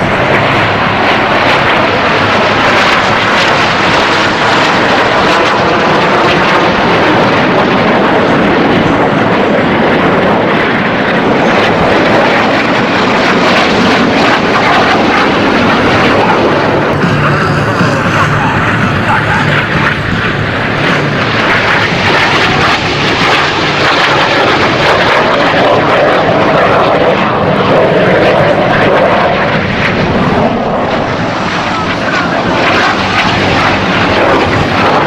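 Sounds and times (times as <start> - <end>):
jet aircraft flying by: 0.0 - 35.0.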